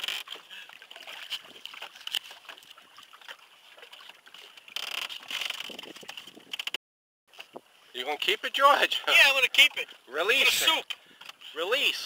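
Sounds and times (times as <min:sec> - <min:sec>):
water lapping against boat: 0:00.0 - 0:12.0.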